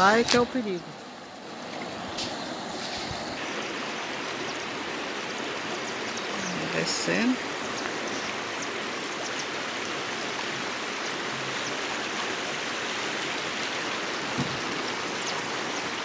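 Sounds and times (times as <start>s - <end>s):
river rapids rushing: 0.0s - 16.0s.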